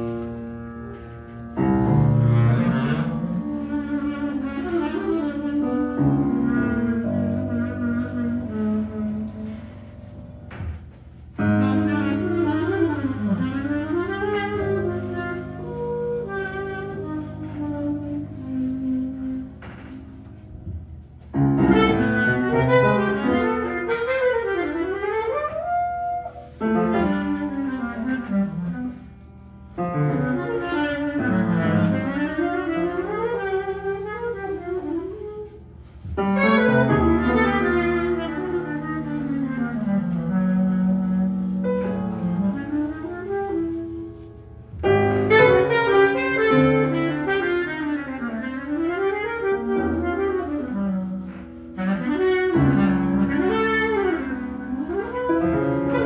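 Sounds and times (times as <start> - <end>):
bass clarinet improvising: 0.0 - 56.0
piano: 0.0 - 56.0.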